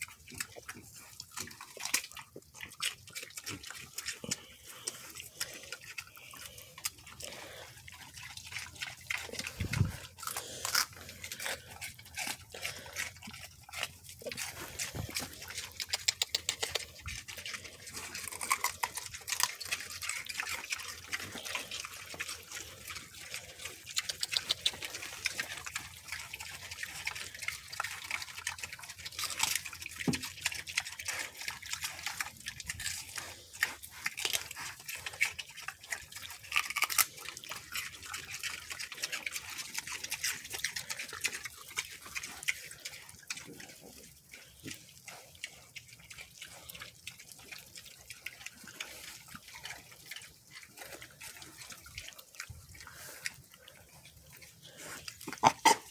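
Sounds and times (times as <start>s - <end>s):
pigs chewing celery: 0.0s - 55.9s.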